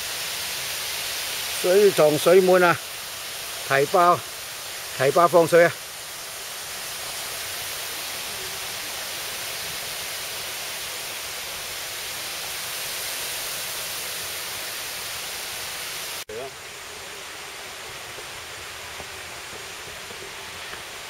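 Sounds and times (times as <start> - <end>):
water rushing over dam: 0.0 - 21.0.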